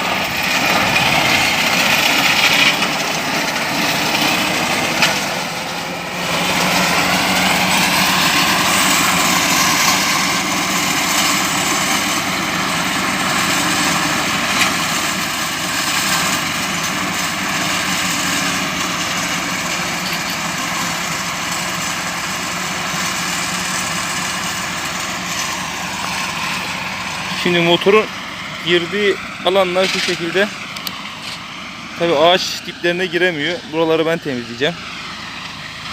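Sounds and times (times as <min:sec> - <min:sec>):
mower engines running: 0:00.0 - 0:35.9.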